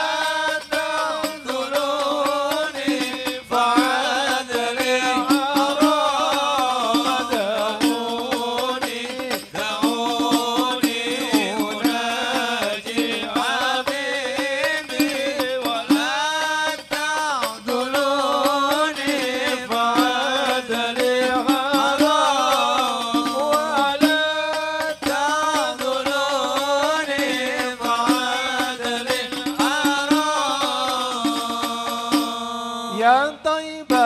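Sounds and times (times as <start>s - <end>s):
frame drum beats: 0.0s - 32.4s
men singing devotional song: 0.0s - 34.0s.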